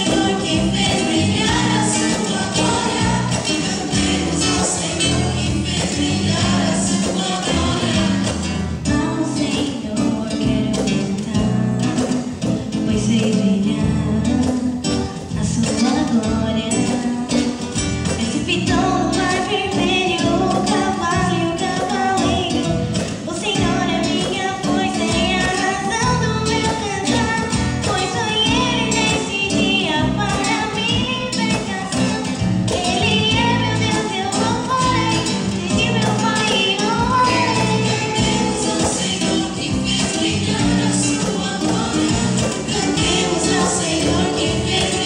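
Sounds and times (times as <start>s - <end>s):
person singing: 0.0s - 45.0s
strummed acoustic guitar: 0.0s - 45.0s.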